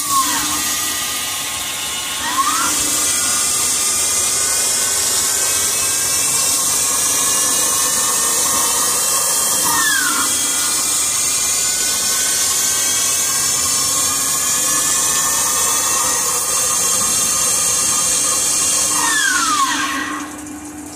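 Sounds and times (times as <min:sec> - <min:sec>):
lathe machine whine and hiss: 0:00.0 - 0:20.9.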